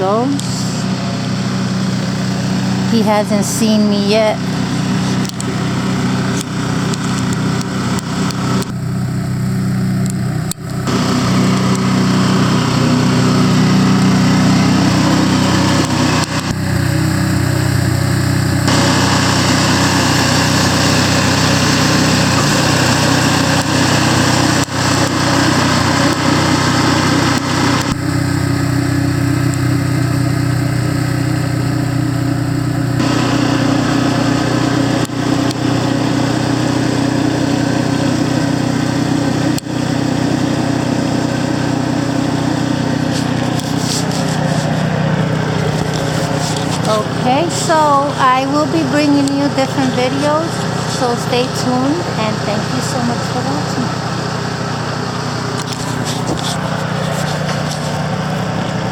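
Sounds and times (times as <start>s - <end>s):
snowblower engine running: 0.0s - 58.9s.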